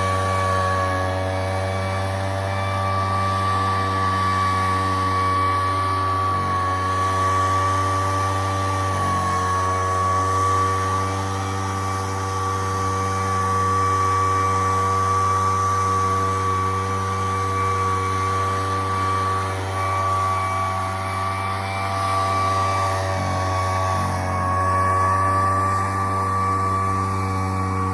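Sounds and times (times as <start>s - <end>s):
high fan whine: 0.0s - 27.9s
leaf blower engine running: 0.0s - 27.9s.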